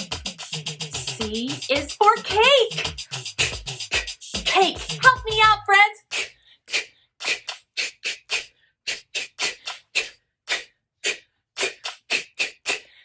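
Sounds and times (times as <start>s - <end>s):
person whispering k sounds: 0.4s - 12.9s.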